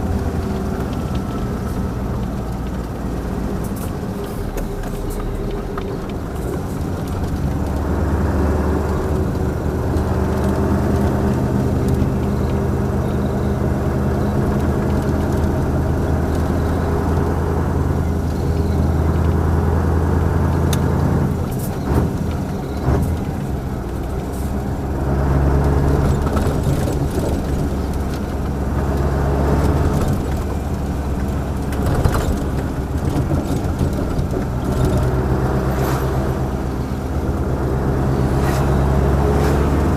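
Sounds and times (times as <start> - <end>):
truck diesel engine under load: 0.0 - 39.9.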